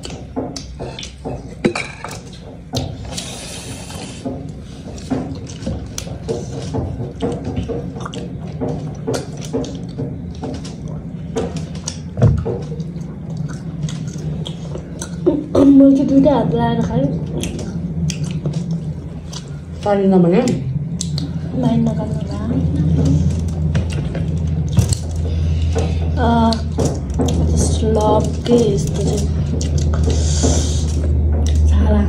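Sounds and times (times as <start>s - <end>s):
wet chewing and smacking: 0.0s - 16.3s, 17.1s - 31.7s.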